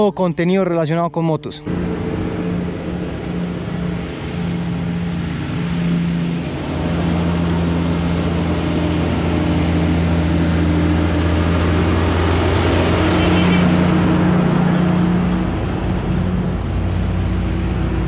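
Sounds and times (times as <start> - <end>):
truck diesel engine hum: 0.0 - 18.0.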